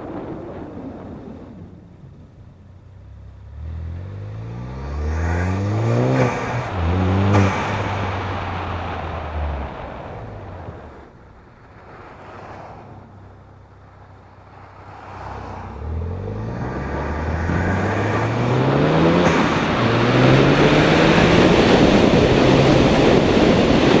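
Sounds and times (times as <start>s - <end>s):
car engine accelerating: 2.0s - 24.0s.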